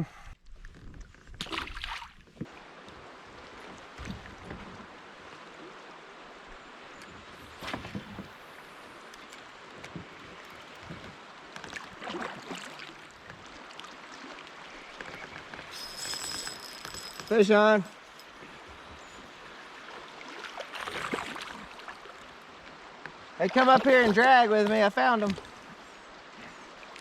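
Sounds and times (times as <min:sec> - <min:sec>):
water splashes: 0:01.2 - 0:27.0
creek water rushing: 0:02.5 - 0:27.0.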